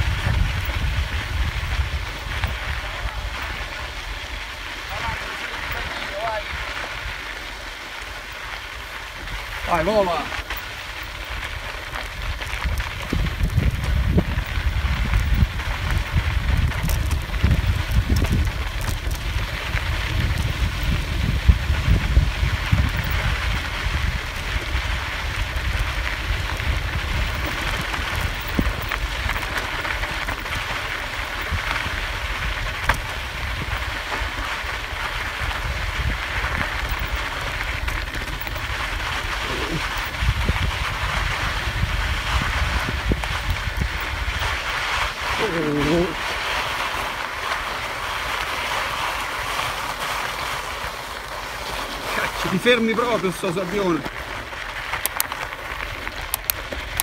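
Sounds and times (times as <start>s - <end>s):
wind buffeting microphone: 0.0s - 49.7s
bicycle tyres on sandy dirt: 0.0s - 57.0s
bike clicks and rattles: 0.0s - 57.0s.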